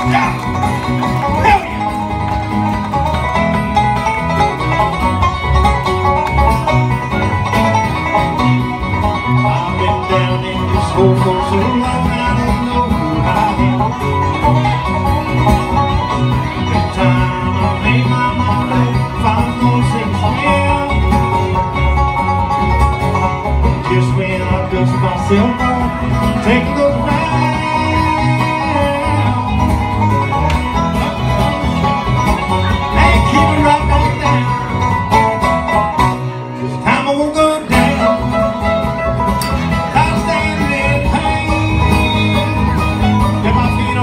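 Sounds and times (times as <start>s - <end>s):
acoustic guitars strumming: 0.0s - 44.0s
fiddle: 0.0s - 44.0s.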